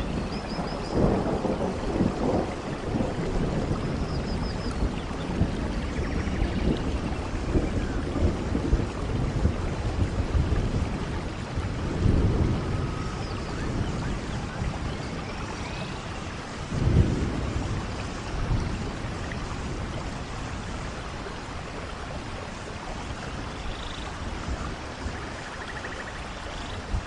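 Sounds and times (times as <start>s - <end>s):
rain pattering on leaves: 0.0s - 27.0s.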